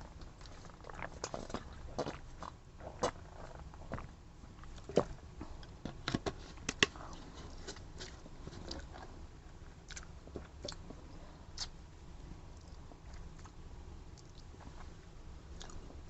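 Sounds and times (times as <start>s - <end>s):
person chewing food: 0.0s - 11.8s, 12.5s - 16.0s.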